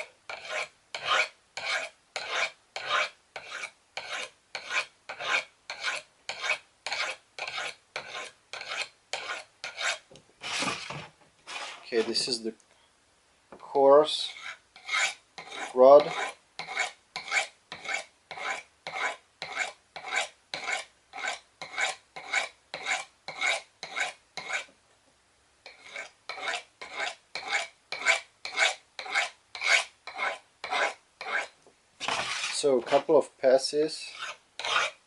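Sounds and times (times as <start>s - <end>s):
knife scraping on sharpening rod: 0.0s - 10.9s, 11.5s - 12.3s, 14.1s - 24.7s, 25.7s - 33.1s, 34.0s - 35.0s.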